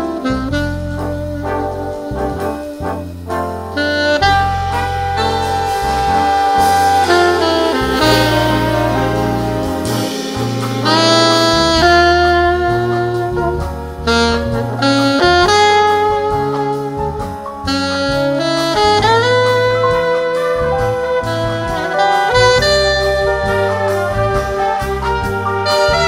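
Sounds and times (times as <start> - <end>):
bass: 0.0 - 26.0
drums in a shuffle: 0.0 - 26.0
piano: 0.0 - 26.0
saxophones and brass chords: 0.0 - 26.0.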